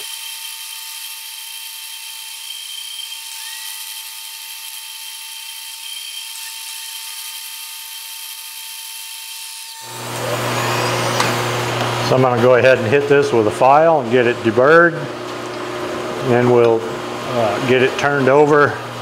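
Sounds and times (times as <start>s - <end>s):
milling machine whining: 0.0s - 8.0s, 9.8s - 19.0s.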